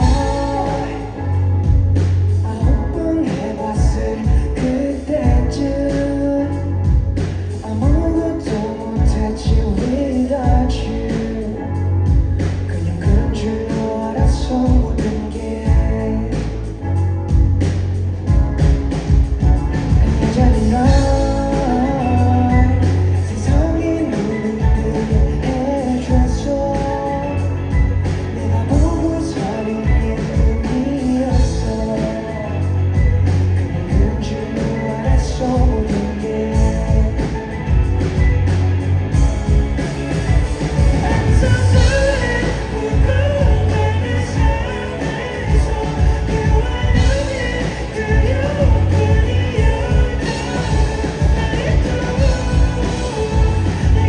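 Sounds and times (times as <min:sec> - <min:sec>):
person singing lead vocals: 0:00.0 - 0:17.7, 0:18.3 - 0:54.0
bass: 0:00.0 - 0:54.0
drum kit beat: 0:00.0 - 0:54.0
electric guitar: 0:00.0 - 0:54.0.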